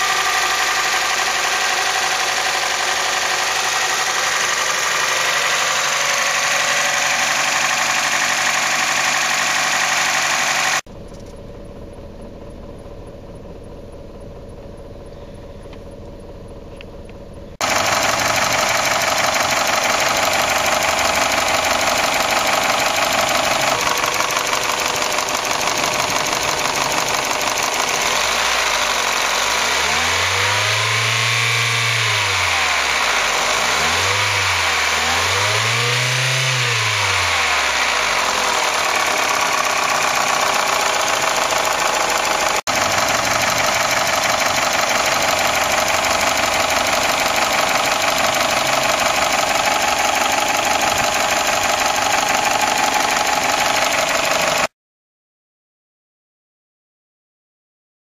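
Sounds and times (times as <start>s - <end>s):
engine revving: 0.0s - 10.9s, 17.6s - 54.7s
car engine idling with clatter: 0.0s - 54.7s.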